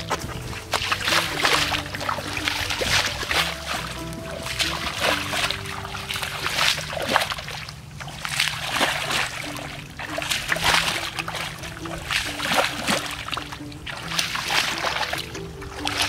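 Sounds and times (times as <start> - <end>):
bare feet splashing in mud water: 0.0 - 16.0.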